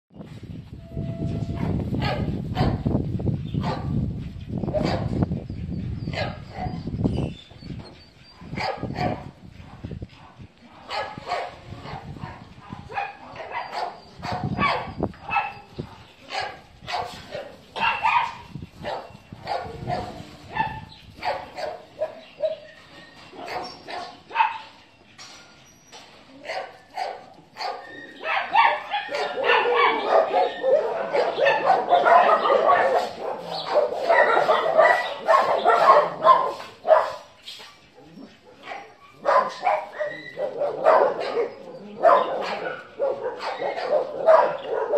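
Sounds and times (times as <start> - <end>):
dogs barking: 1.6 - 2.9, 3.6 - 4.0, 4.7 - 5.2, 6.1 - 6.9, 8.2 - 22.7, 23.3 - 24.8, 26.4 - 37.4, 38.0 - 44.9.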